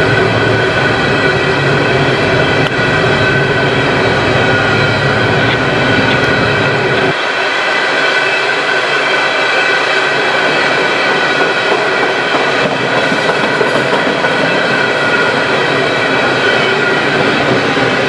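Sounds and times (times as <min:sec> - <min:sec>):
high-pitched wheel ringing: 0:00.0 - 0:18.0
wheels rumbling on rails: 0:00.0 - 0:18.0.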